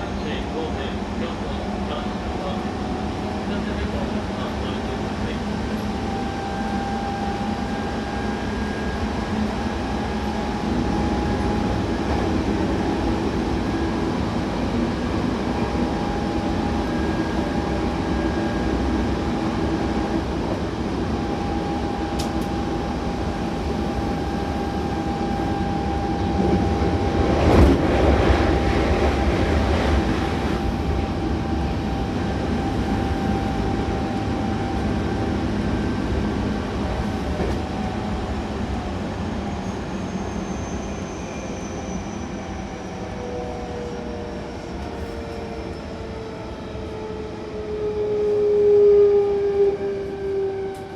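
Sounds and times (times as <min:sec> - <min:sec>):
train rumble: 0:00.0 - 0:50.9
train whine: 0:00.0 - 0:50.9.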